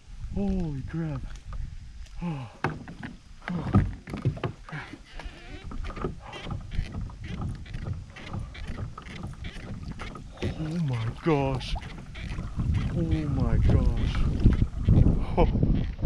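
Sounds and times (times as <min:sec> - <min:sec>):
water splashing: 0:00.4 - 0:16.0
knocks and clatter on boat: 0:02.6 - 0:16.0.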